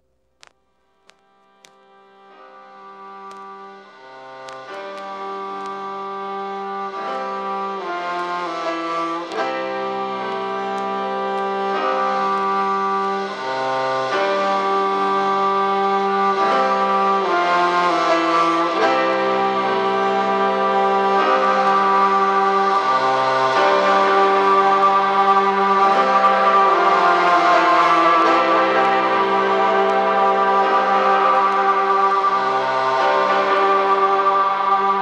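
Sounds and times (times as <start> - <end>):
slow sustained chords music: 0.0 - 35.0.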